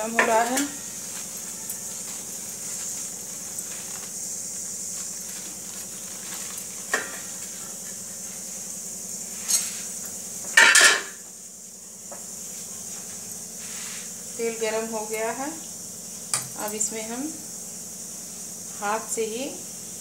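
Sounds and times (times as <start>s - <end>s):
gas burner hissing: 0.0s - 20.0s.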